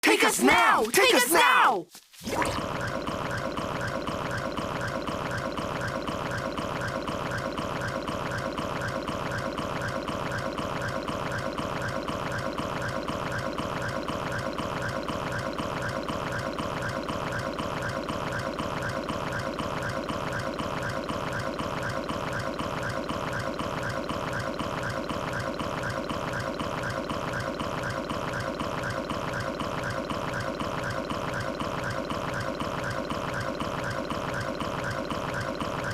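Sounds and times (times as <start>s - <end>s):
stomach growl gurgling: 2.2s - 35.9s.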